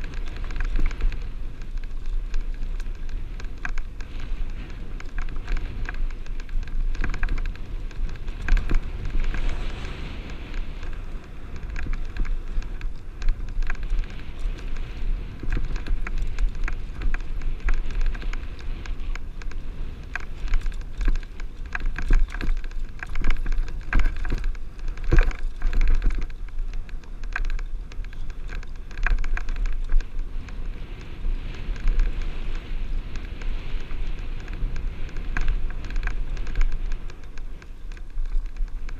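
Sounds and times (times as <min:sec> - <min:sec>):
bike tyres clattering over rock: 0:00.0 - 0:38.9
wind rumble on microphone: 0:00.0 - 0:38.9.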